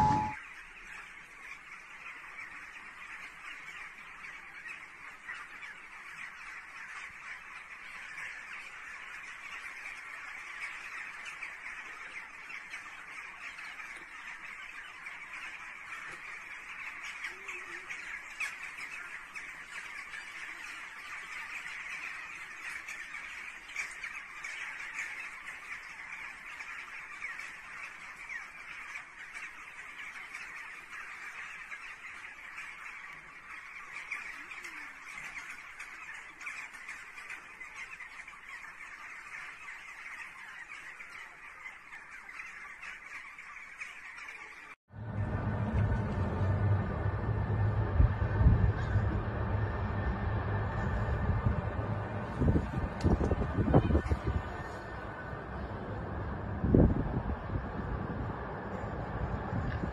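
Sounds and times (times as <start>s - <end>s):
flock of birds calling: 0.0s - 59.9s.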